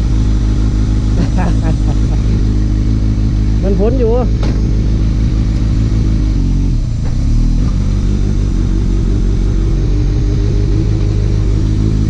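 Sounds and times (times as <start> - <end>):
sport bike engine running: 0.0 - 12.0.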